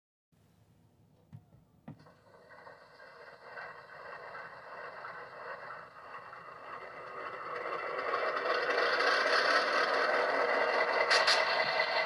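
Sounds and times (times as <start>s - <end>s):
diesel engine sound from small speaker: 2.0s - 12.0s.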